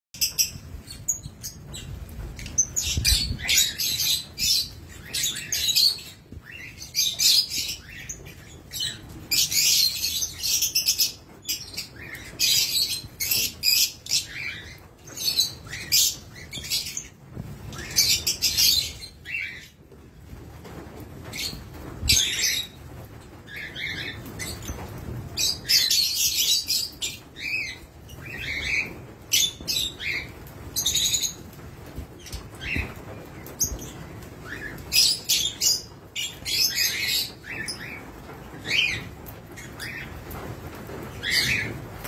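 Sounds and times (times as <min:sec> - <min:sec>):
lovebirds chattering and shrieking: 0:00.2 - 0:19.9, 0:21.2 - 0:42.0.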